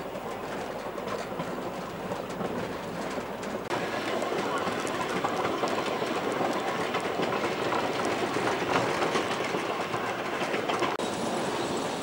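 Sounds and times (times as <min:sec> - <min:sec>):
train rumble: 0:00.0 - 0:12.0
train wheels clattering: 0:00.0 - 0:12.0.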